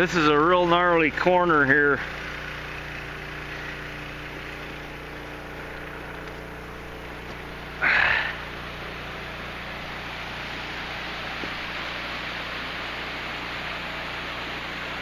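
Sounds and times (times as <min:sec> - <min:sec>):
distant engine humming: 0:02.0 - 0:15.0.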